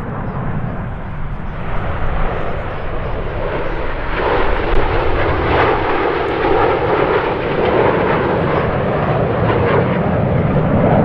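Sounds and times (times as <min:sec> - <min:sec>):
jets flying past: 0:00.0 - 0:11.0.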